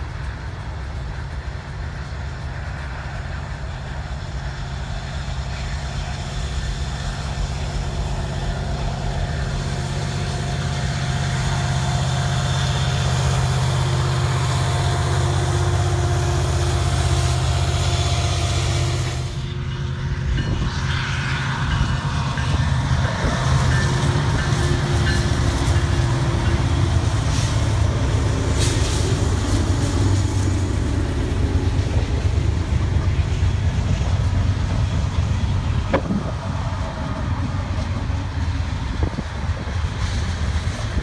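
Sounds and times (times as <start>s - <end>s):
diesel locomotives approaching: 0.0s - 41.0s
diesel locomotives running past: 0.0s - 41.0s
freight train wagons rolling on rails: 0.0s - 41.0s.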